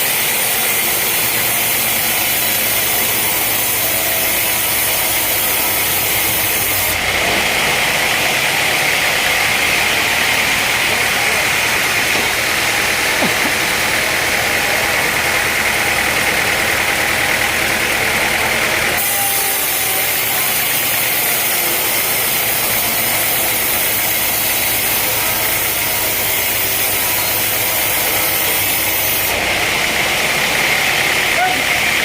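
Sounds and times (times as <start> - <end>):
sawmill machinery hissing: 0.0 - 32.0.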